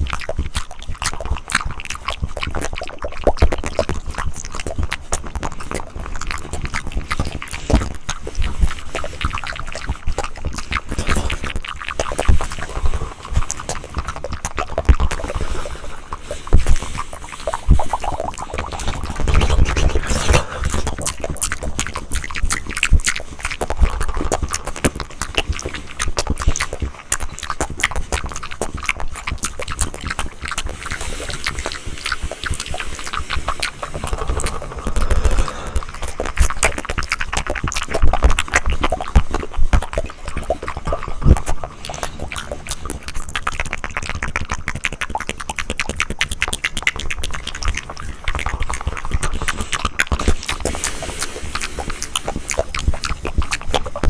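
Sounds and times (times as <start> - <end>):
wet mouth clicks and smacks: 0.0 - 54.0.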